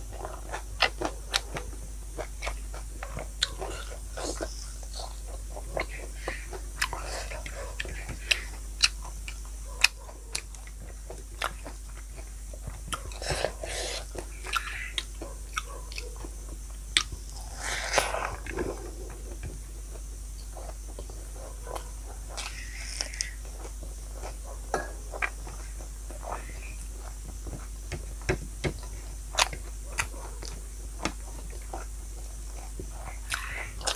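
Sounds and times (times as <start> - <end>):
person chewing crunchy food: 0.0 - 33.9.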